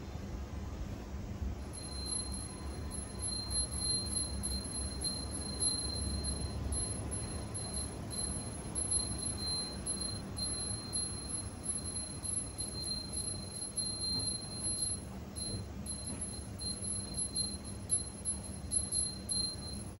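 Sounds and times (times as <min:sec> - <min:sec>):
high-pitched tone flickering: 0:01.6 - 0:20.0.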